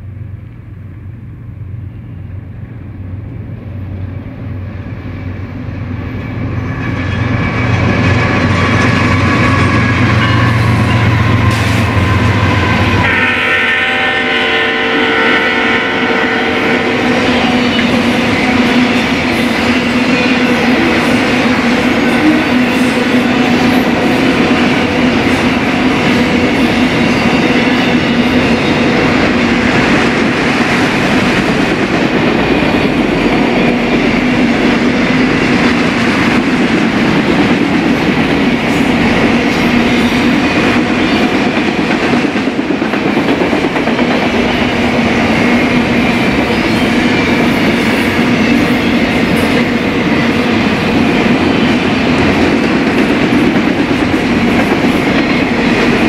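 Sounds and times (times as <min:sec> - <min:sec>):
freight train rolling past: 0:00.0 - 0:56.0
wheels clickety-clack on rail: 0:04.1 - 0:13.6, 0:15.4 - 0:56.0.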